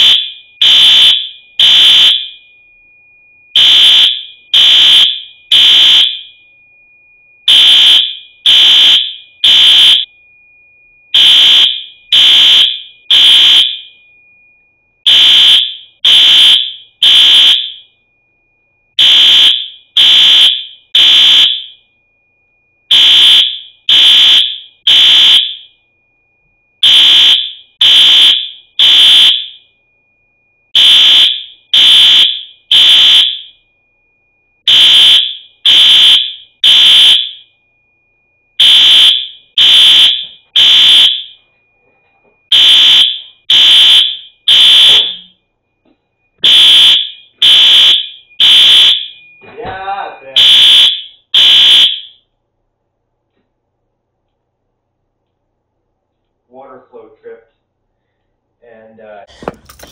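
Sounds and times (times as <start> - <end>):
fire alarm high-pitched beeps: 0.0 - 52.4, 59.4 - 59.9.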